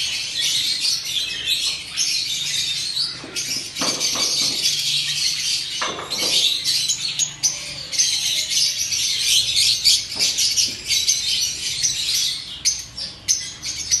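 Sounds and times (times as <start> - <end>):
lovebirds chattering and squawking: 0.0 - 14.0.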